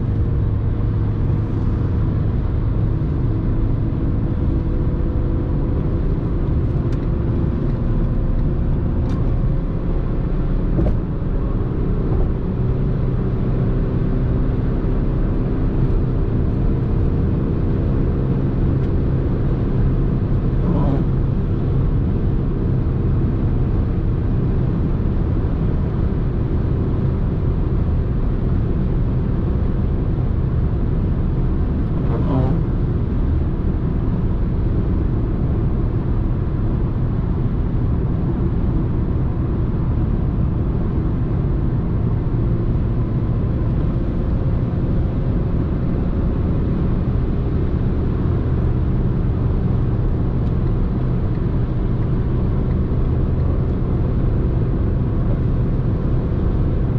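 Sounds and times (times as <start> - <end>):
car engine cruising: 0.0 - 56.9
road and wind noise: 0.0 - 56.9.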